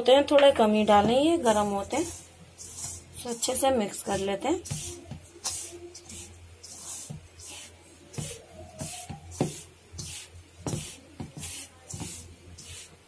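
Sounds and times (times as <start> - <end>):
hand mixing dry flour in bowl: 0.1 - 13.0.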